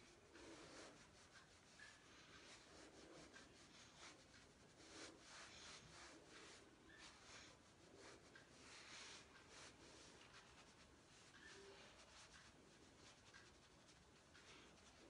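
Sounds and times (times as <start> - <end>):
makeup brush swishing: 0.0 - 15.0.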